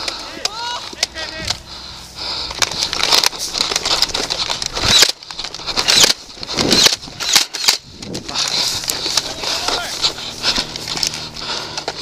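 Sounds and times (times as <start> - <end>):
footsteps running on dry grass: 0.8 - 12.0
gear rustling and knocking: 2.2 - 12.0.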